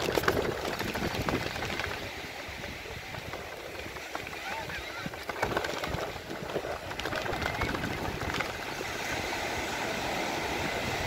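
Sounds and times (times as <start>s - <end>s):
small waves breaking on sand: 0.0s - 11.0s
wind on microphone: 0.0s - 11.0s.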